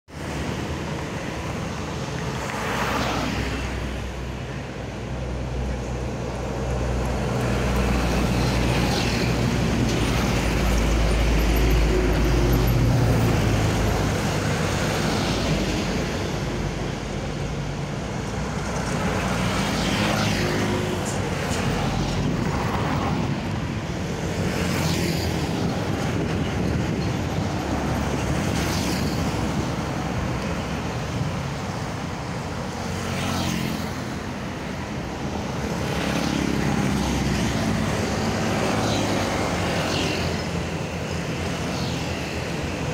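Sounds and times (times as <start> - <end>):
vehicles passing: 0.1 - 42.9.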